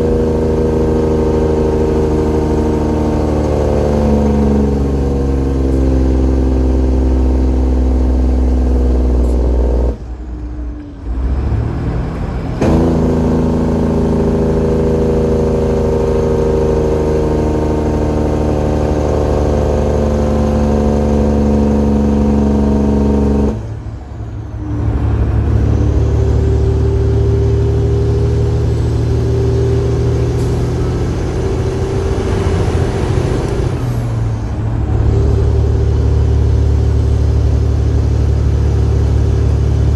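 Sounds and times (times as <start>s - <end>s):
truck engine under heavy load: 0.0s - 39.9s.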